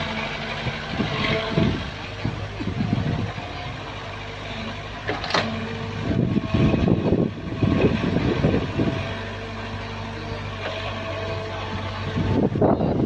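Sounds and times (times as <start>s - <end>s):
excavator bucket scraping soil: 0.0s - 12.5s
diesel engine running: 0.0s - 13.0s.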